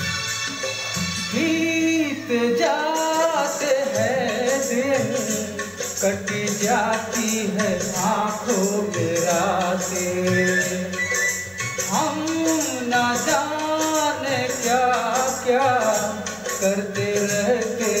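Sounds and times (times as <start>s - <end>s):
recorded music backing track: 0.0s - 18.0s
man singing into microphone: 1.2s - 18.0s.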